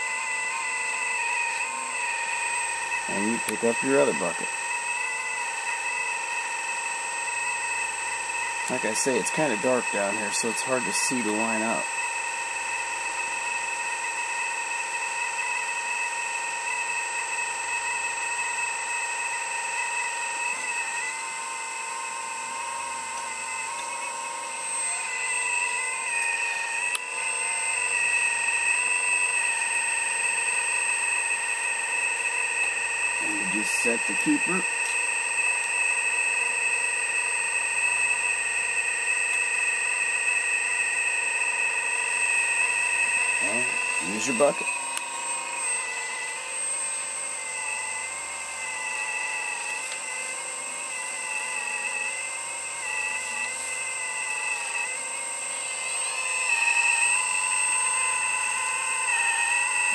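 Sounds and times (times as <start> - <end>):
hydraulic pump whining: 0.0 - 59.9.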